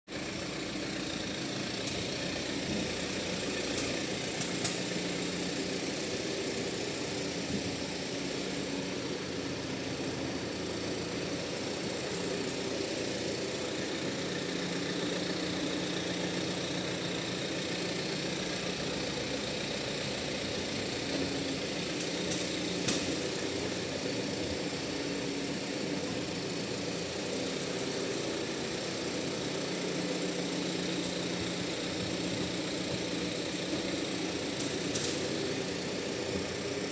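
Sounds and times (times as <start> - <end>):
diesel engine idling: 0.1 - 36.9
sharp clacks from car wheels: 0.4 - 36.9.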